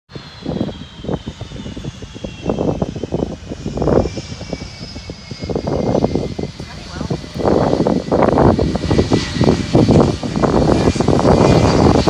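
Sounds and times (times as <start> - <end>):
gusty low rumble: 0.1 - 12.0
jet engines whining: 0.1 - 12.0.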